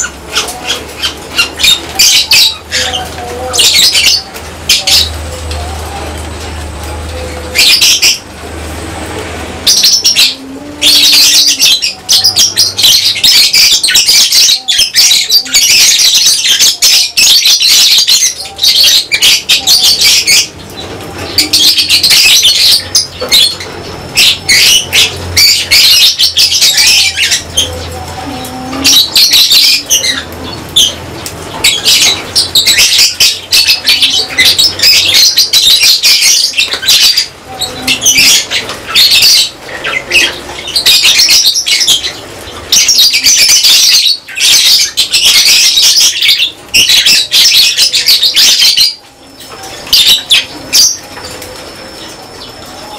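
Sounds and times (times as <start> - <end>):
lovebirds chattering and screeching: 0.0 - 52.9.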